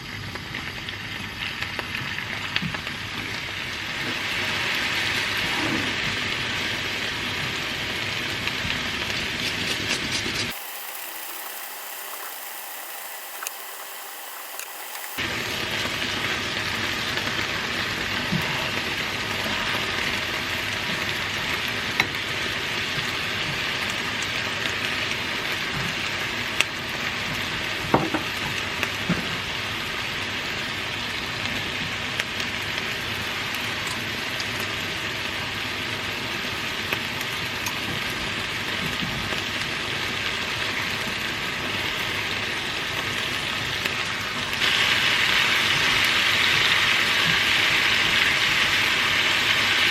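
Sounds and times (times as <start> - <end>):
food sizzling in a frying pan: 0.0 - 49.9.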